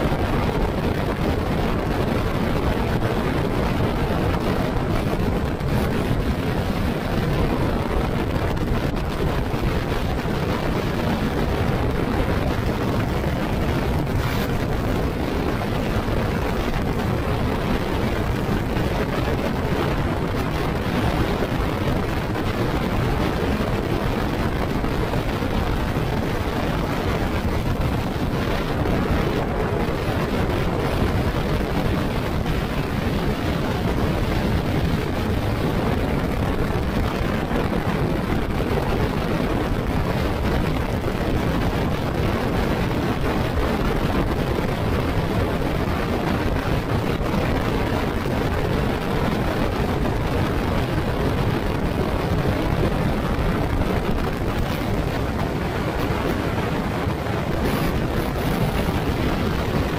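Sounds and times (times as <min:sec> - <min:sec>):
road noise: 0:00.0 - 0:59.9
wind noise: 0:00.0 - 0:59.9.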